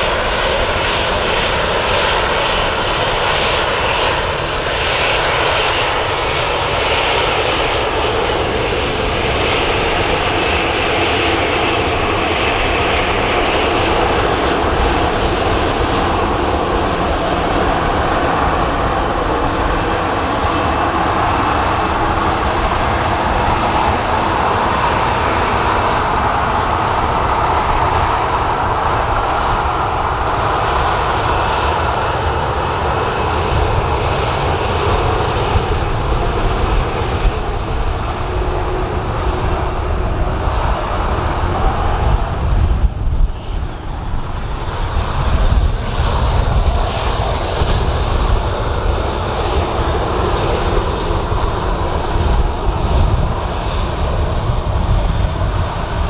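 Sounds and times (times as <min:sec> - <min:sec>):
jet engines roaring: 0:00.0 - 0:56.0
wind buffeting microphone: 0:00.0 - 0:56.0.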